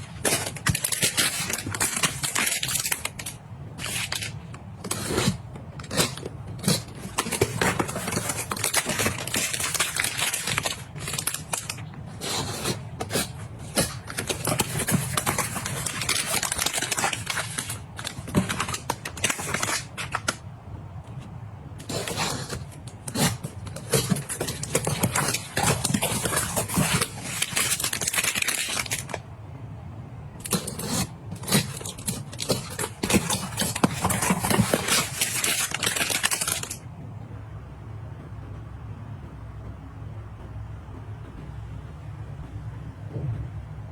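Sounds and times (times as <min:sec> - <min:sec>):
packaging rustling: 0:00.0 - 0:29.2, 0:30.3 - 0:36.9.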